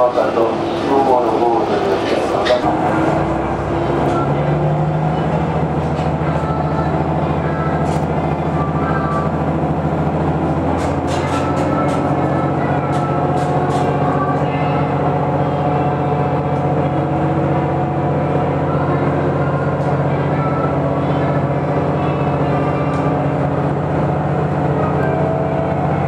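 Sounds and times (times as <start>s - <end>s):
diesel train engine drone: 0.0s - 26.0s
wheel and rail noise: 0.0s - 26.0s.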